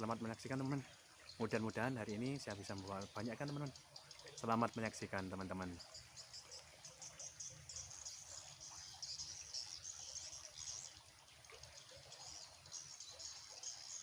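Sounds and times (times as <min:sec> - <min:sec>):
insects chirring: 0:00.0 - 0:11.1, 0:11.8 - 0:14.0.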